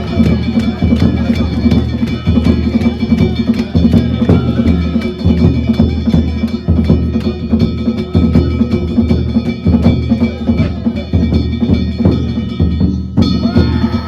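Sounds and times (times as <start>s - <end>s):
hand gongs clanging: 0.0s - 14.0s
taiko drum beaten fast: 0.0s - 14.0s.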